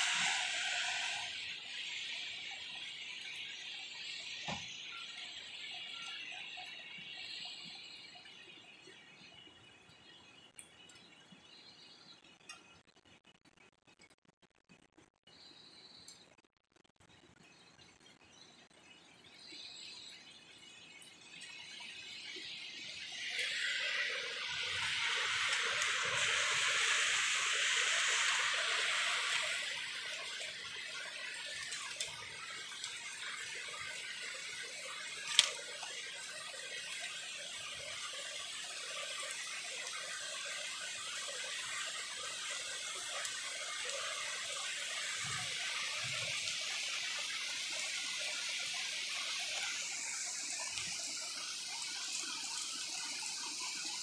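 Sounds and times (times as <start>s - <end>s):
steady rain falling: 0.0s - 10.0s, 19.3s - 54.0s.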